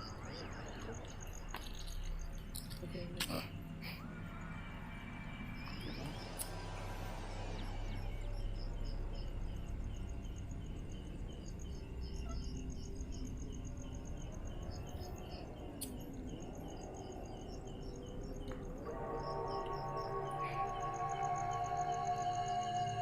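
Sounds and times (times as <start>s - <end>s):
ambient music: 0.0s - 23.0s
crickets chirping: 0.0s - 23.0s
low outdoor hum: 0.0s - 23.0s.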